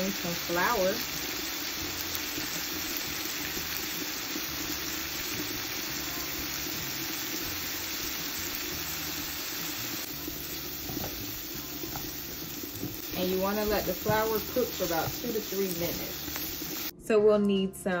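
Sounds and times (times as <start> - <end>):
vegetables sizzling in a pan: 0.0 - 16.9.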